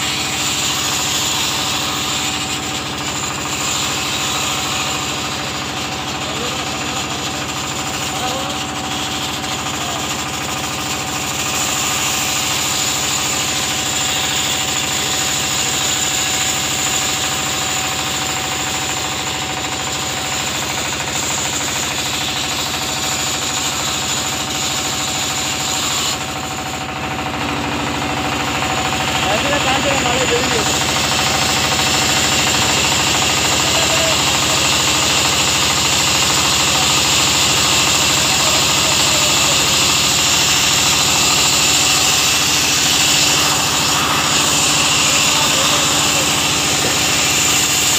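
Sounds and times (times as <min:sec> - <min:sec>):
band saw cutting wood: 0:00.0 - 0:47.9.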